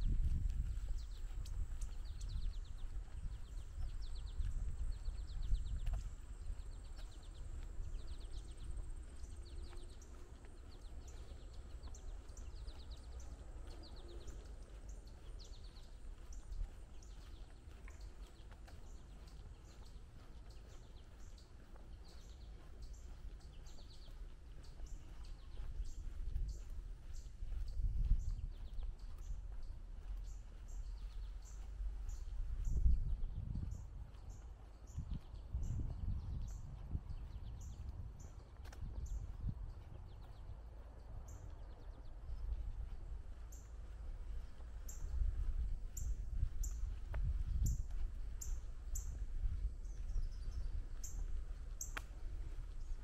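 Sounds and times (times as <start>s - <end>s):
small bird chirping: 0.0s - 40.5s, 41.2s - 53.0s
low steady rumble: 0.0s - 53.0s.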